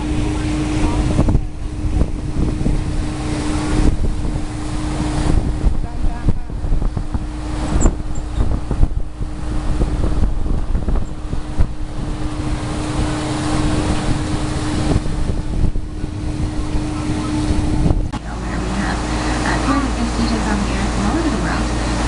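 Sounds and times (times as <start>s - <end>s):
boat engine droning: 0.0s - 22.0s
constant low hum: 0.0s - 22.0s
wind buffeting microphone: 0.0s - 22.0s.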